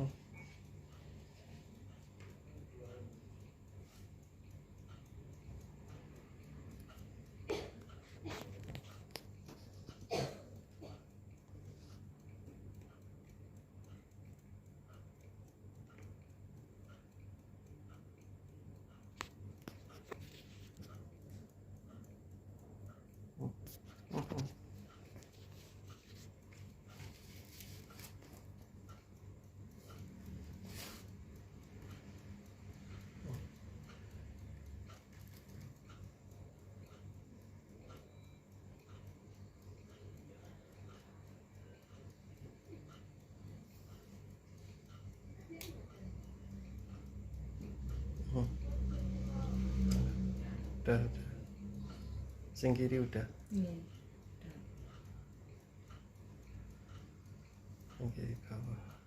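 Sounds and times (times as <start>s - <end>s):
faint regular ticking: 0.0s - 59.0s
steady low hum: 0.0s - 59.0s.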